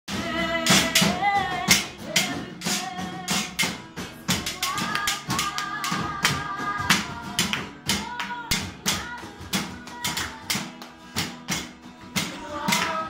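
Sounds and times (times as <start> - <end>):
group singing gospel song: 0.1 - 10.8, 12.2 - 13.0
sharp percussive hits: 0.1 - 13.0.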